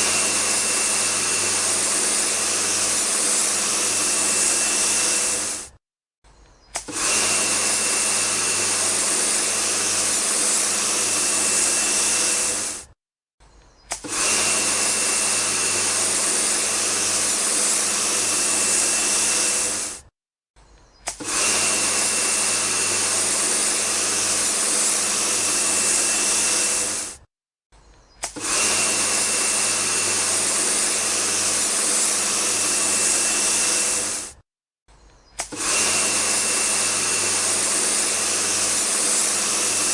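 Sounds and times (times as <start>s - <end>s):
small motor whirring and hissing: 0.0s - 5.8s, 6.4s - 20.1s, 20.7s - 34.4s, 35.0s - 39.9s.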